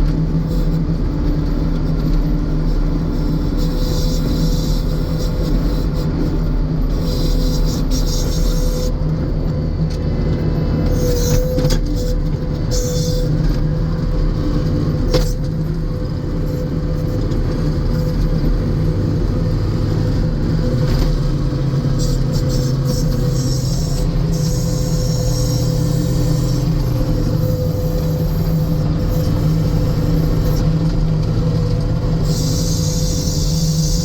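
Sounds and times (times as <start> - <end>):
diesel engine running: 0.0 - 34.0
engine whine: 0.0 - 34.0.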